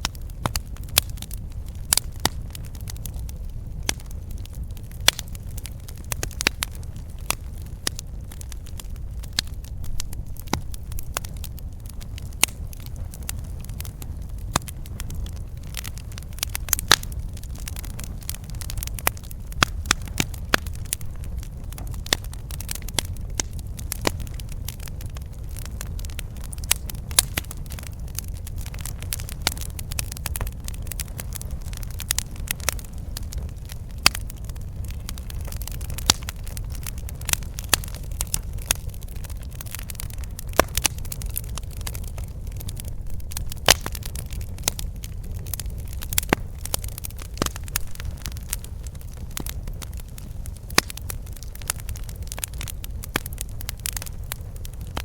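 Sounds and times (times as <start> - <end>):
burning wood crackling and popping: 0.0 - 55.0
campfire flames rumbling: 0.0 - 55.0.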